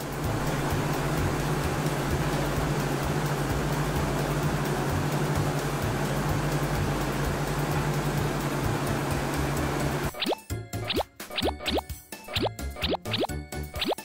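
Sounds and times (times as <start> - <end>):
helicopter rotor whirring: 0.0 - 11.8.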